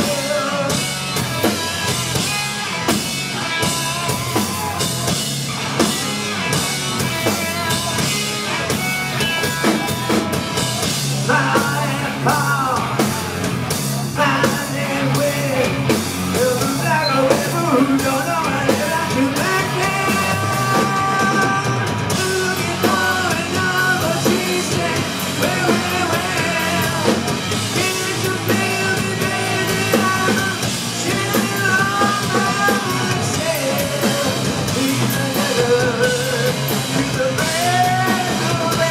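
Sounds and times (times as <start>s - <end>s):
man singing: 0.0s - 5.2s, 5.8s - 38.9s
bass guitar: 0.0s - 38.9s
drum kit: 0.0s - 38.9s
electric guitar: 0.0s - 38.9s.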